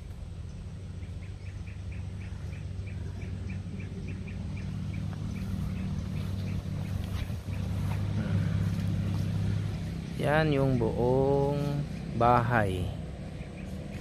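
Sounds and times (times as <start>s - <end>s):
low engine-like hum: 0.0s - 14.0s.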